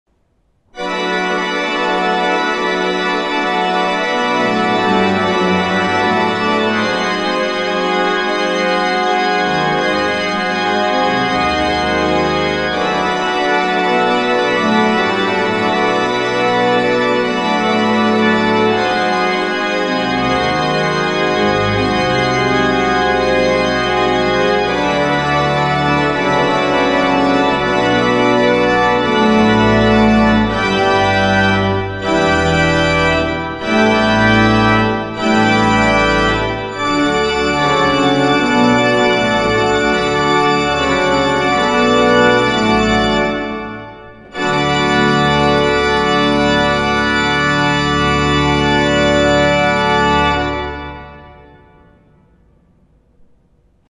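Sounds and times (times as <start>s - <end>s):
organ chords: 0.6s - 53.6s.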